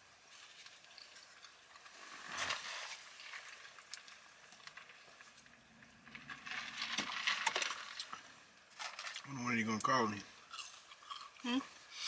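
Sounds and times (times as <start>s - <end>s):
rustle: 0.0s - 10.8s
light clicks and crinkles: 0.2s - 11.0s.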